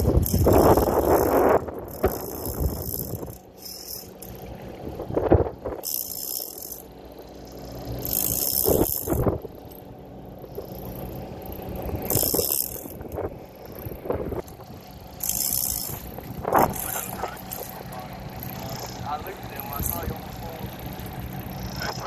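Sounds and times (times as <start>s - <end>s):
fishing reel ratchet clicking: 0.0s - 4.6s, 5.8s - 22.0s
water noise: 0.0s - 22.0s
wind: 0.0s - 22.0s.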